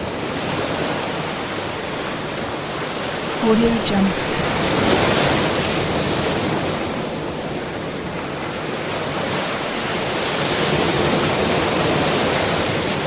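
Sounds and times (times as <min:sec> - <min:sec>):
waves breaking: 0:00.0 - 0:13.0.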